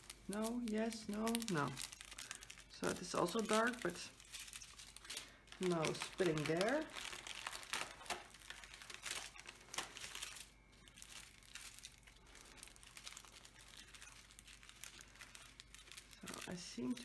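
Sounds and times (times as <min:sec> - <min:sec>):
plastic baggies crinkling: 0:00.0 - 0:17.0.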